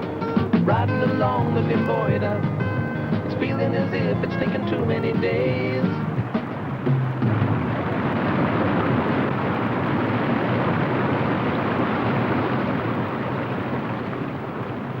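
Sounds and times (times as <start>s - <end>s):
river whitewater rushing: 0.0s - 15.0s.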